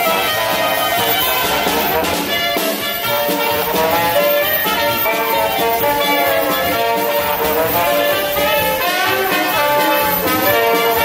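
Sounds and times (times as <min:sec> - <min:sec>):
jazz band with trumpet: 0:00.0 - 0:11.0.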